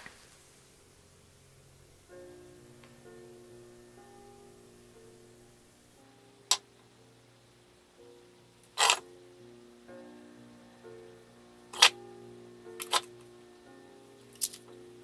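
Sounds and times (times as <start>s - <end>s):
music with slow held notes: 0.0s - 15.0s.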